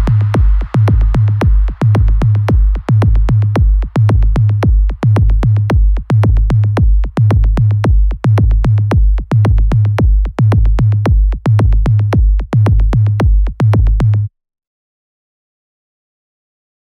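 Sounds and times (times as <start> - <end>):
electronic dance music: 0.0 - 14.1.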